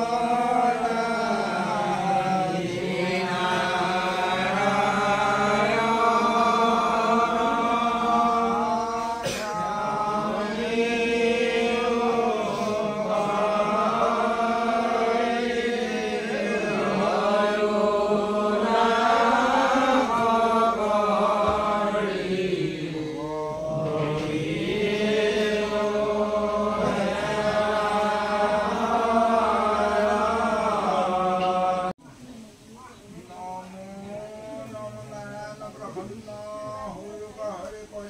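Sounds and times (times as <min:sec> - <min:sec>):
congregation chanting: 0:00.0 - 0:32.0, 0:33.2 - 0:38.0.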